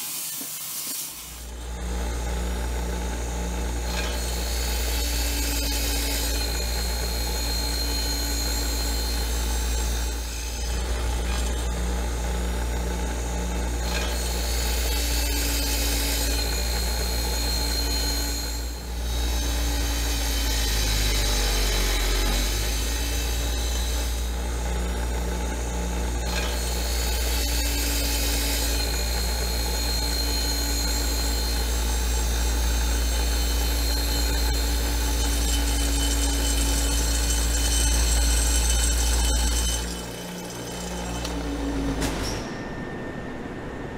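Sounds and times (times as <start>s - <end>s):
power tool motor humming and whining: 0.0s - 43.8s.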